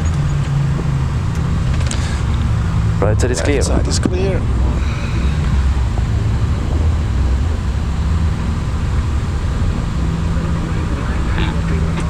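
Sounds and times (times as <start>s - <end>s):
low rumble of taxiing aircraft: 0.0s - 12.0s
steady low hum: 0.0s - 12.0s.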